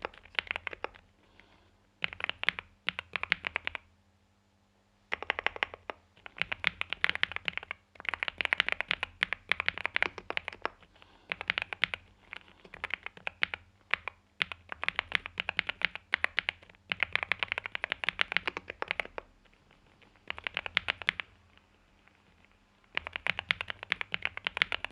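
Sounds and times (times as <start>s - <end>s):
mechanical keyboard typing: 0.0s - 1.0s, 2.0s - 3.9s, 5.1s - 19.3s, 20.0s - 21.7s, 22.9s - 24.9s.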